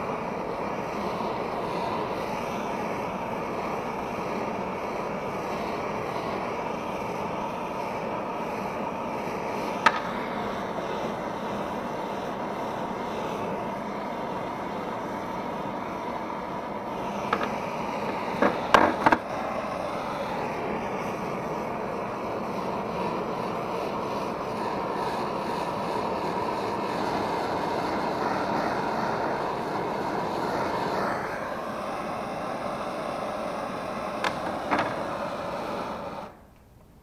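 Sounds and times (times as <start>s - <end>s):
blowtorch hissing: 0.0s - 36.5s.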